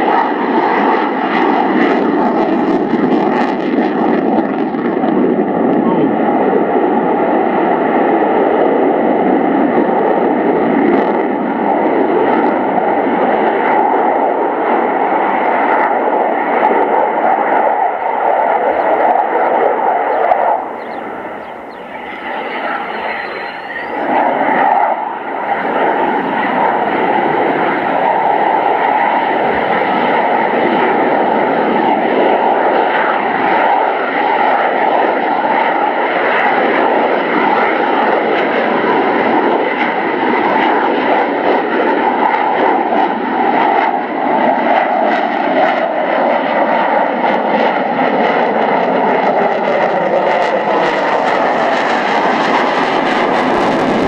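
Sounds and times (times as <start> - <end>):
fighter jet engine roar: 0.0 - 54.0.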